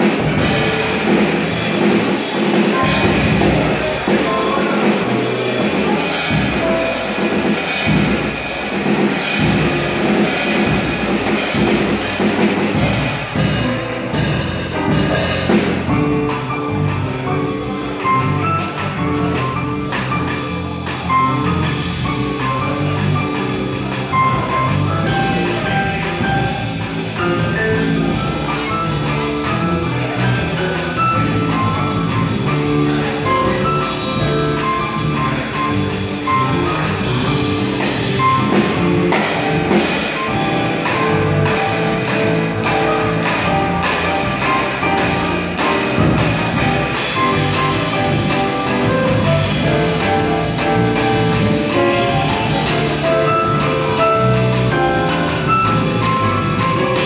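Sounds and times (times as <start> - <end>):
live band playing bossa nova: 0.0 - 57.0.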